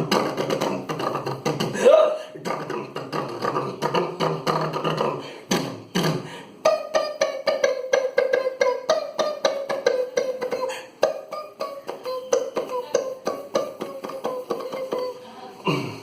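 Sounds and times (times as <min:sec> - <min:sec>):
person humming a tune: 0:00.0 - 0:16.0.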